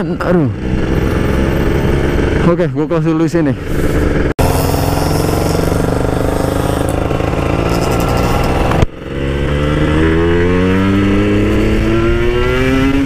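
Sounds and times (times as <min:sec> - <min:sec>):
two-stroke motorcycle engine accelerating: 0:00.0 - 0:13.0.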